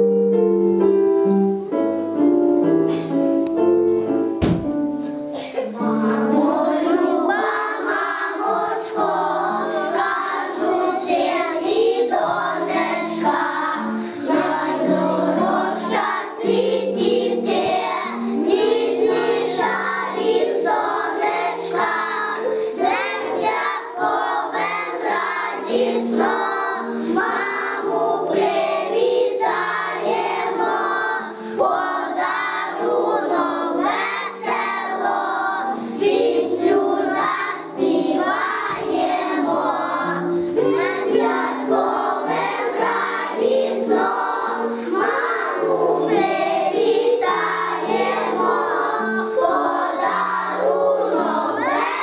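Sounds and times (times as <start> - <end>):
instrumental accompaniment: 0.0 - 52.0
children singing in unison: 5.3 - 52.0.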